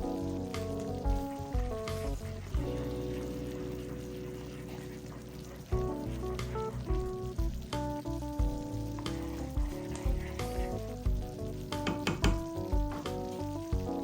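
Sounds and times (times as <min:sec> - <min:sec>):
background music with a beat: 0:00.0 - 0:03.1, 0:05.7 - 0:14.0
food sizzling in a pan: 0:00.2 - 0:13.9.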